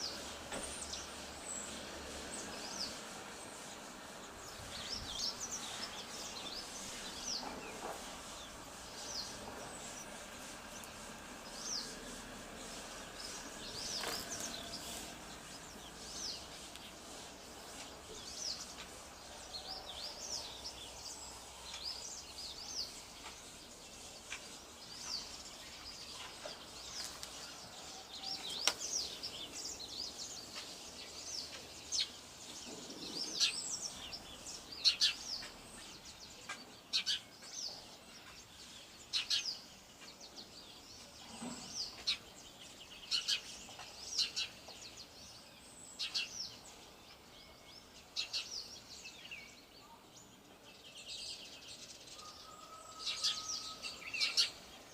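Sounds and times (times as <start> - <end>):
faint outdoor background noise: 0.0 - 54.9
small birds chirping: 0.0 - 54.9.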